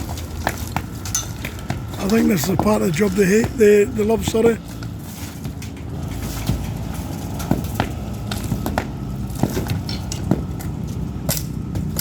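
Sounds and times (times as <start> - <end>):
debris falling: 0.0 - 12.0.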